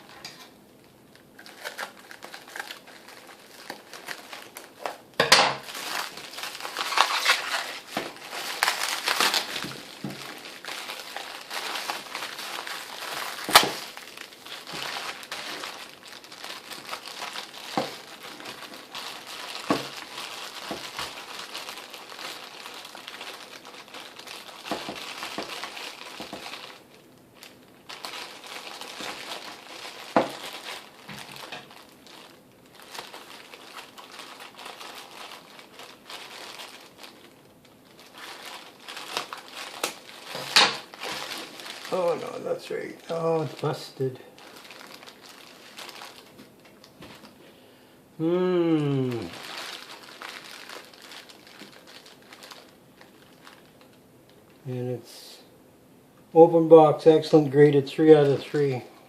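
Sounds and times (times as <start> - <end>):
packaging crinkling: 0.0 - 47.6, 48.2 - 54.9, 58.0 - 58.9.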